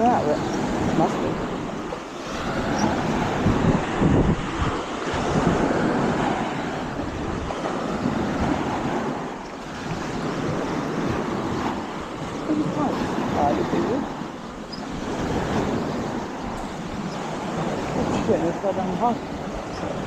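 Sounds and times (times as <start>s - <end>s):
small waves on shore: 0.0s - 20.0s
wind buffeting microphone: 0.0s - 20.0s.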